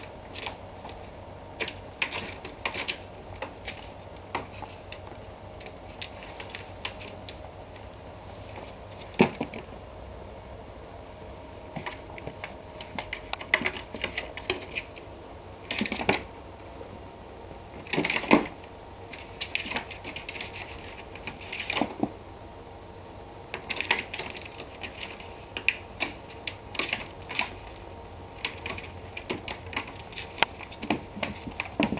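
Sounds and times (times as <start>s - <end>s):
claws scratching on plastic: 0.3s - 9.7s, 11.7s - 15.1s, 17.8s - 22.2s, 23.5s - 31.9s.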